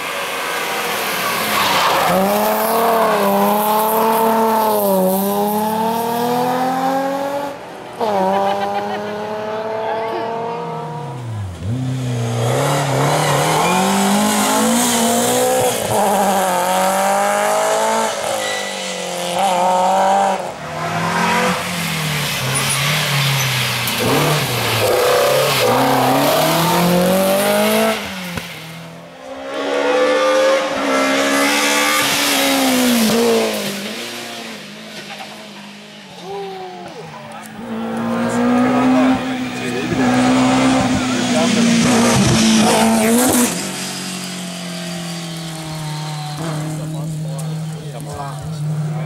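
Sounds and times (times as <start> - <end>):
rally car engine revving: 0.6 - 49.0.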